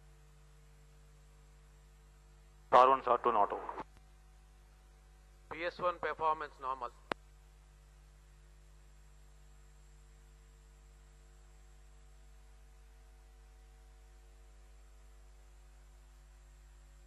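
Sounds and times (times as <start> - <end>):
low hum with faint hiss: 0.0 - 17.0.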